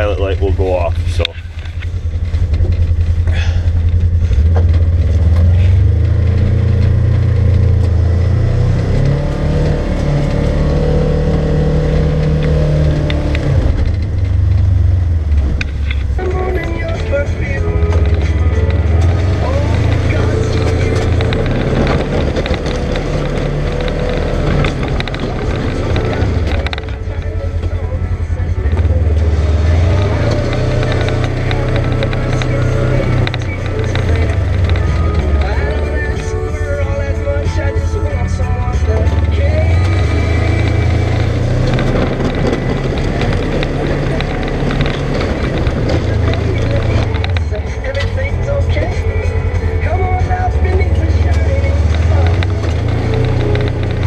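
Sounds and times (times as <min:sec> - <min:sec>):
vehicle engine running: 0:00.0 - 0:54.0
clicks: 0:01.0 - 0:54.0.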